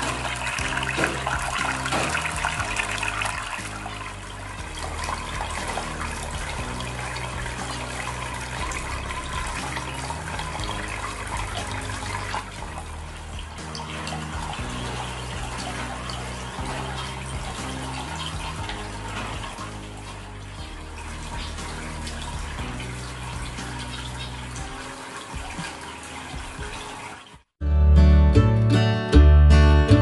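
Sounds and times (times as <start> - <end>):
water splashing in fountain: 0.0 - 27.6
background music: 0.0 - 30.0.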